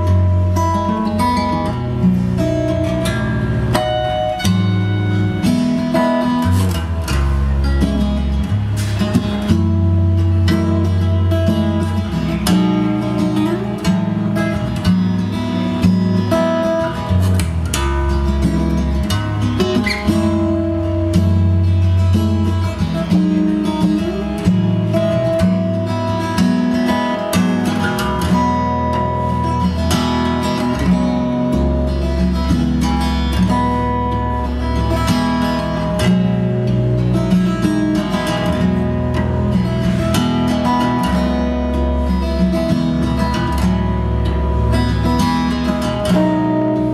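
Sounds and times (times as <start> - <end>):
acoustic guitar music: 0.0 - 46.9
bass line: 0.0 - 46.9.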